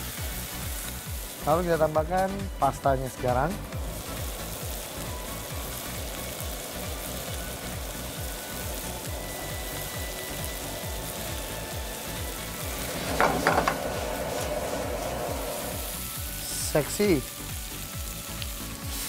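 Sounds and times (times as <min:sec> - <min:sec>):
background music with steady beat: 0:00.0 - 0:19.0
pasta sizzling in a pan: 0:00.0 - 0:19.0.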